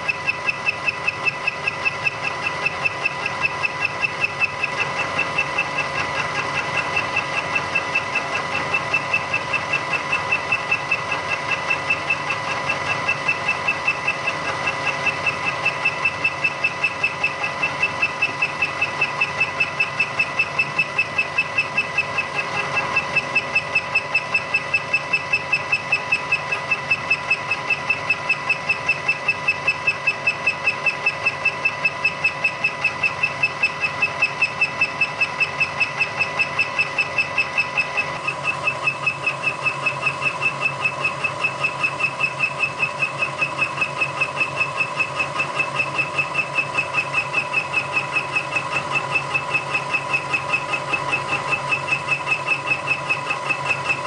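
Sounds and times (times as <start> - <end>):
milling machine running: 0.0 - 54.0.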